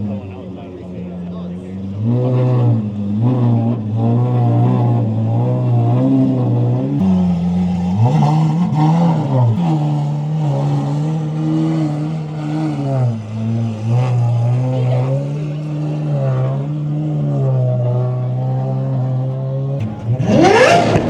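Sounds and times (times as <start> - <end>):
car engine revving: 1.6 - 19.0, 19.8 - 21.0.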